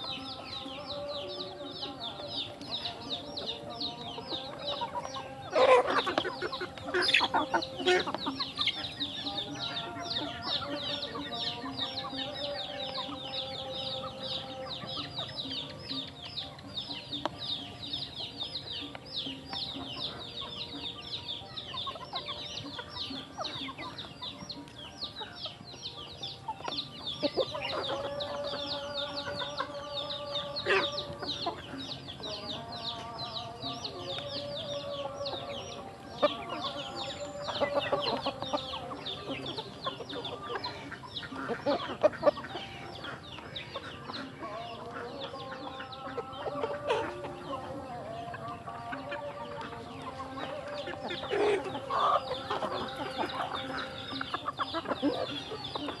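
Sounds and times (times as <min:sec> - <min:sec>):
chickens clucking: 0:00.0 - 0:56.0
chickens peeping: 0:00.0 - 0:56.0.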